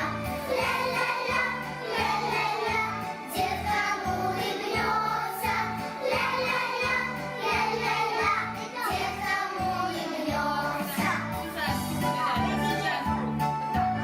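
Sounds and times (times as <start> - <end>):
voices singing children's song: 0.0 - 13.0
backing music with bass line: 0.0 - 14.0.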